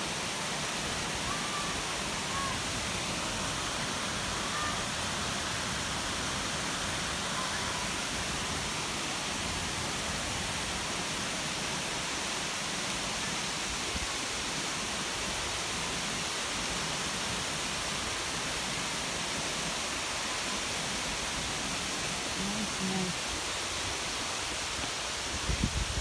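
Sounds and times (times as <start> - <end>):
rocky stream: 0.0 - 26.0
waterfall rushing: 0.0 - 26.0.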